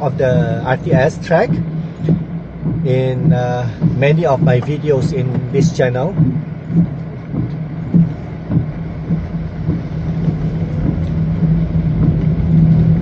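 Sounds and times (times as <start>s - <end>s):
car engine and road drone: 0.0s - 13.0s
soft knocks: 0.4s - 12.8s.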